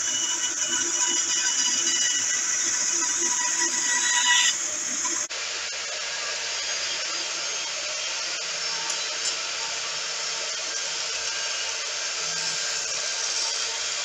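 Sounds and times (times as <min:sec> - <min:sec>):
band saw cutting wood: 0:00.0 - 0:14.0
table saw running: 0:00.0 - 0:14.0.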